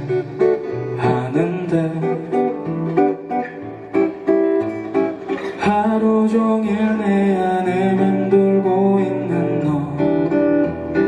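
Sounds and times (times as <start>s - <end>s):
person singing: 0.0s - 3.3s, 5.4s - 11.0s
acoustic guitar playing: 0.0s - 11.0s.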